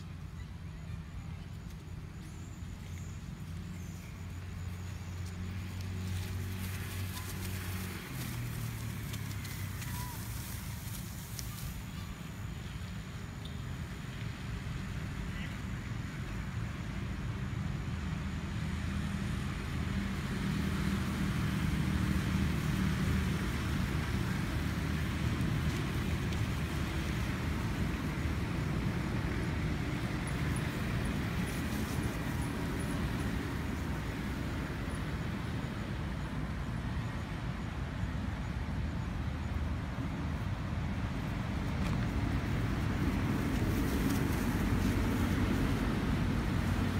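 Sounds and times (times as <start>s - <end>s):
distant traffic rumble: 0.0s - 46.9s.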